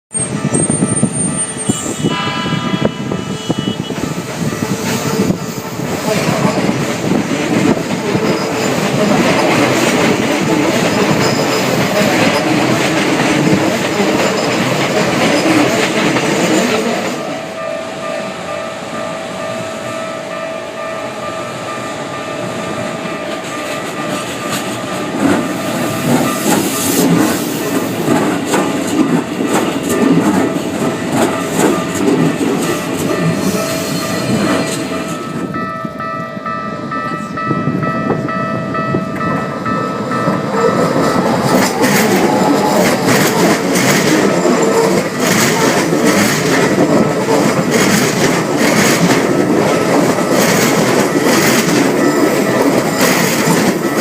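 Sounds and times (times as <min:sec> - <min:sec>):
wheels rattling on rails: 0:00.1 - 0:02.1, 0:03.5 - 0:54.0
electric train passing: 0:00.1 - 0:54.0.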